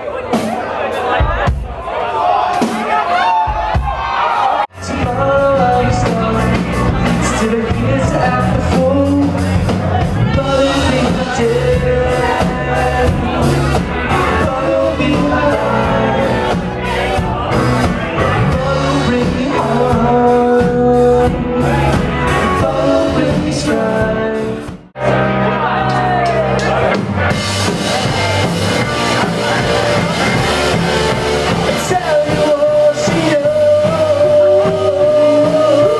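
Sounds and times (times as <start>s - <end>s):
live rock band playing: 0.0s - 1.9s, 2.5s - 35.9s
drums: 0.0s - 35.9s
electric guitar: 4.7s - 35.9s
lead singer: 4.7s - 35.9s.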